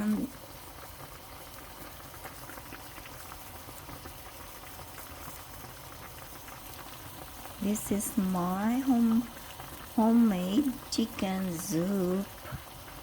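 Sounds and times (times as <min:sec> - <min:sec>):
soup boiling in a pot: 0:00.0 - 0:13.0.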